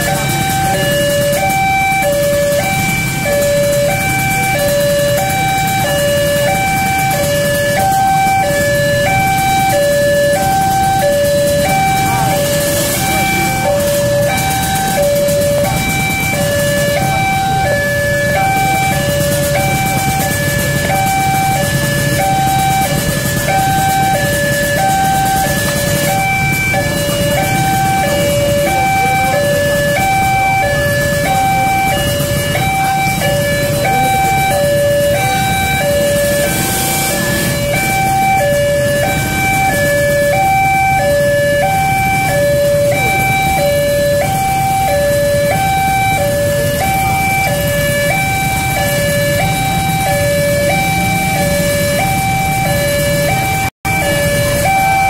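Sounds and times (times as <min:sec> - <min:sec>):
level-crossing alarm two-tone warning: 0:00.0 - 0:55.0
low rumble of traffic: 0:00.0 - 0:55.0.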